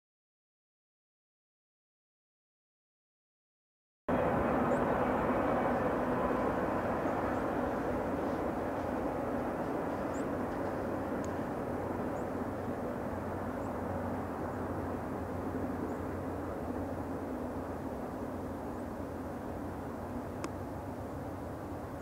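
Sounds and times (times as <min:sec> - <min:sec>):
distant freight train rumble: 0:04.1 - 0:22.0.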